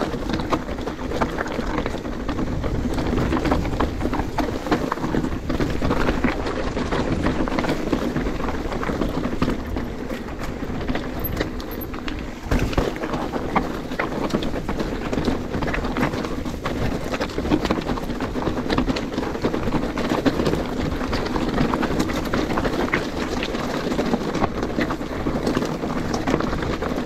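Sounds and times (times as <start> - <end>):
bike clicks and rattles: 0.0 - 27.0
bike tyres rumbling on dirt: 0.0 - 27.0.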